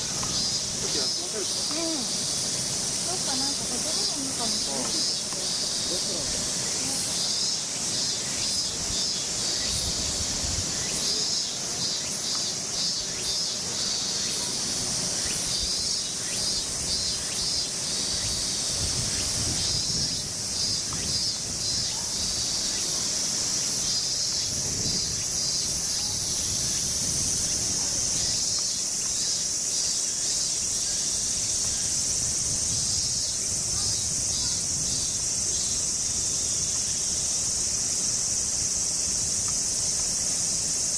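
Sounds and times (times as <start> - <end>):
cicadas shrilling: 0.0 - 40.9.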